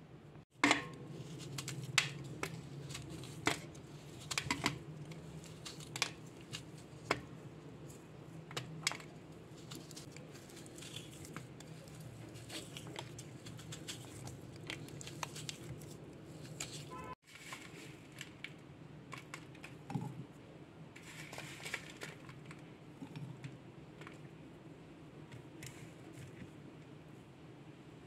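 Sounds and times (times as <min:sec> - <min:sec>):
jaggery cracking and crumbling: 0:00.6 - 0:19.9, 0:21.0 - 0:24.4.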